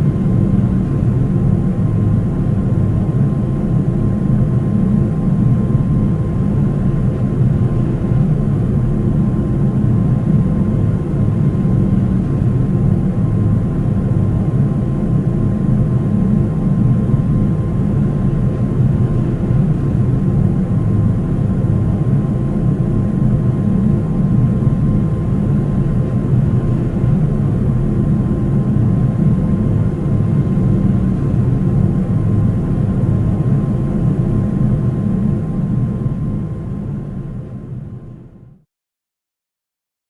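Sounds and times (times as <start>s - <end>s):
faint steady whine: 0.0s - 38.6s
airplane engine rumble in cabin: 0.0s - 38.7s.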